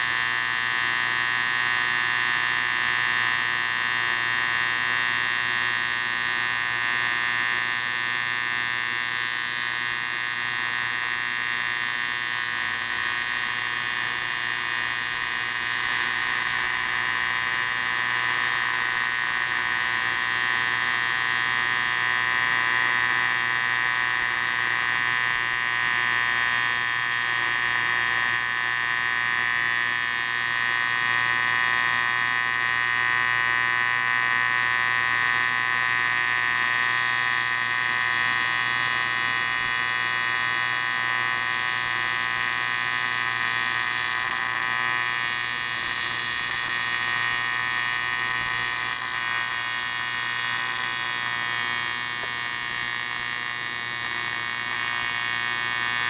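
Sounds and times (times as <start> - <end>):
welding arc buzzing: 0.0 - 56.0.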